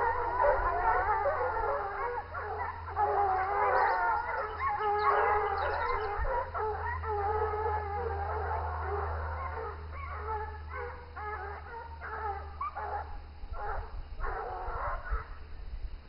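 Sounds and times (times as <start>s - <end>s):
hounds baying: 0.0s - 15.4s.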